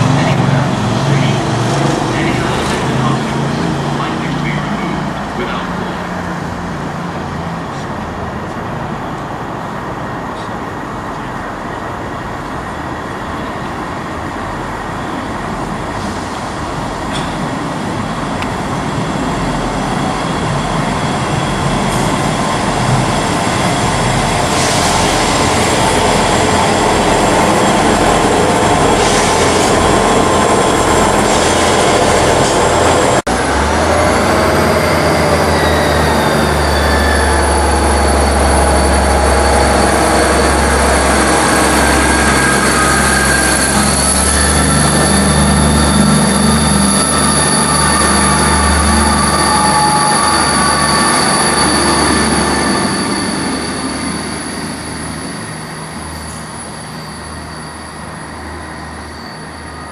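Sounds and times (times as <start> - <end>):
train rolling past: 0.0 - 59.9.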